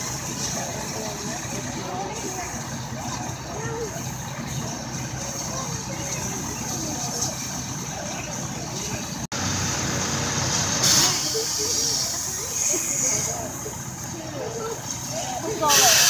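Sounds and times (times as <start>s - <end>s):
loud hiss of steam: 0.0s - 7.0s, 9.4s - 16.0s
faint crowd voices: 0.0s - 9.3s, 10.4s - 16.0s
steam locomotive hiss and rumble: 0.0s - 16.0s.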